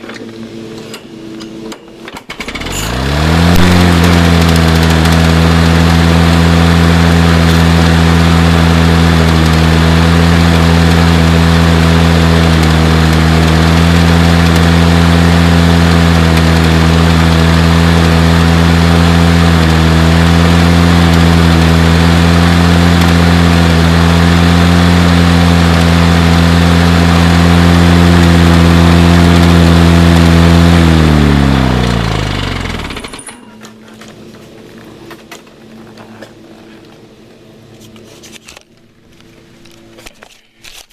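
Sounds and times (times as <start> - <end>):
lawn mower engine running: 0.0 - 40.3
engine winding down: 2.2 - 36.4.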